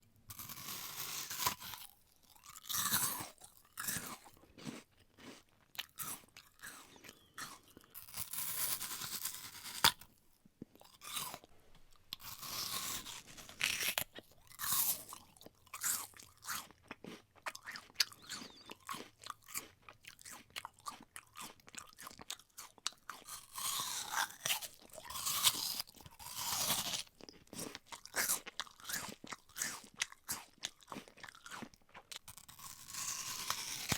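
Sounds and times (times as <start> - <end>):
biting and chewing crisp apple: 0.3 - 33.9.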